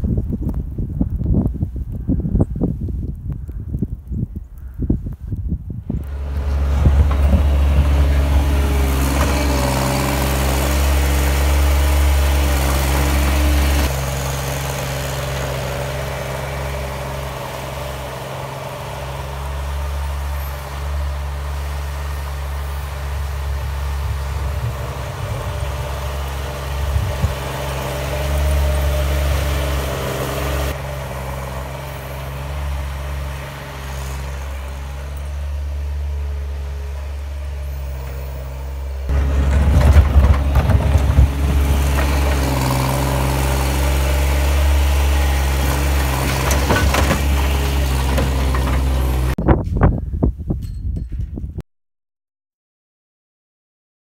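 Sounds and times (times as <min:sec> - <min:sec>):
skid steer engine running: 0:05.9 - 0:49.4.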